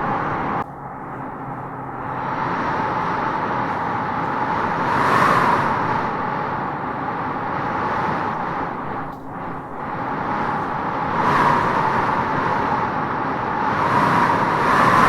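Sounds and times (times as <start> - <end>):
wind howling through trees: 0.0 - 15.0.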